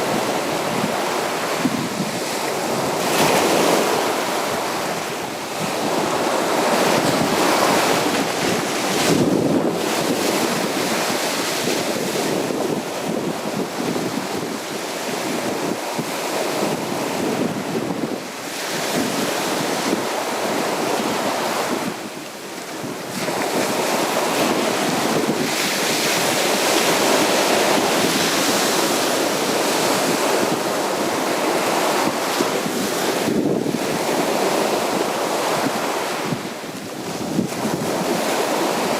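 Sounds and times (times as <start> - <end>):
sea waves breaking on beach: 0.0 - 38.9
wind buffeting microphone: 0.0 - 38.9.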